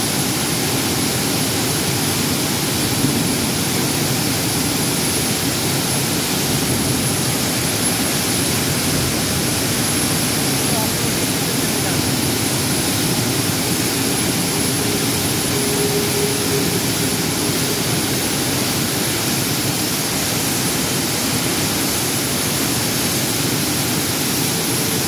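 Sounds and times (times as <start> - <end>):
steel rolling mill machinery din: 0.0 - 25.0.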